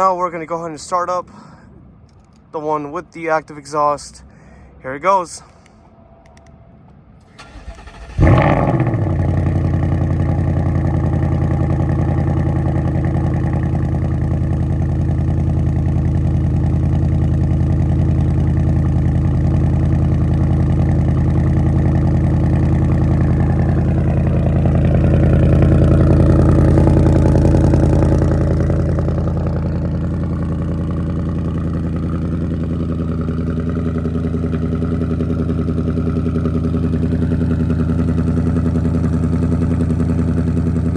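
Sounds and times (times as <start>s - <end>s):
car engine starting with loud flare: 7.2s - 40.9s
car engine idling: 7.3s - 40.9s.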